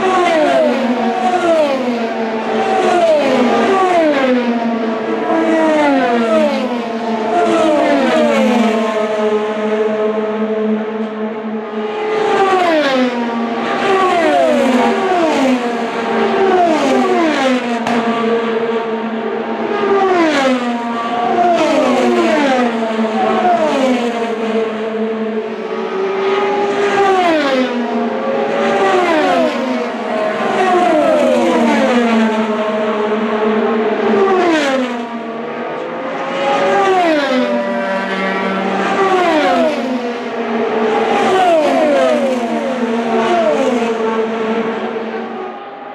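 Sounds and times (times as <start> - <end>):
drone of distant race cars: 0.0 - 45.9
race cars passing at speed: 0.0 - 45.9.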